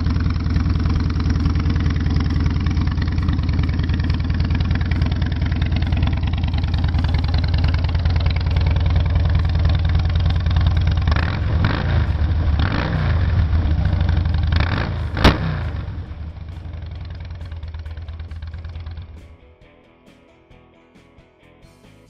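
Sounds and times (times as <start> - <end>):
exhaust pop: 0.0 - 19.4
motorcycle engine idling: 0.0 - 19.6.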